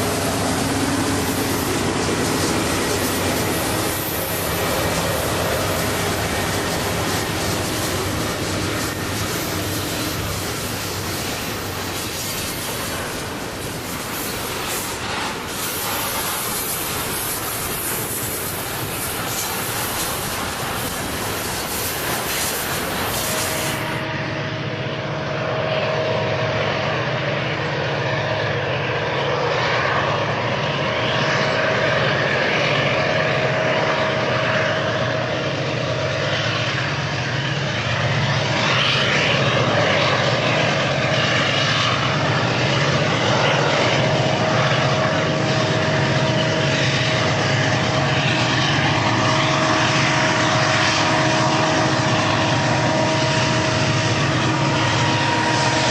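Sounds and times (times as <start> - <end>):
locomotive engine drone: 0.0 - 55.9.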